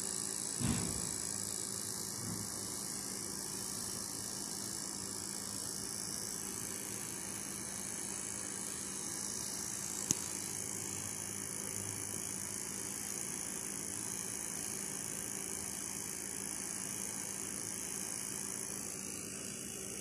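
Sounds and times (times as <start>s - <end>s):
room hum and hiss: 0.0s - 20.0s.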